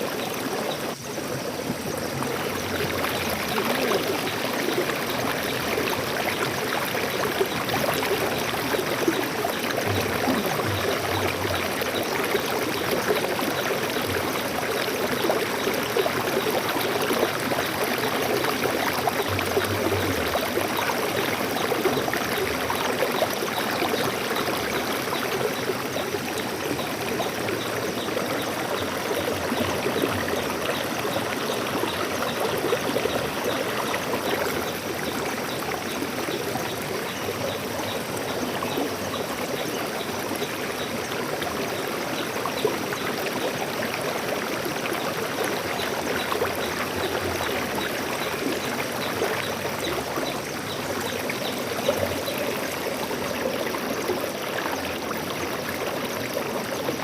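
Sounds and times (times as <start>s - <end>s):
water stream flowing: 0.0s - 57.0s.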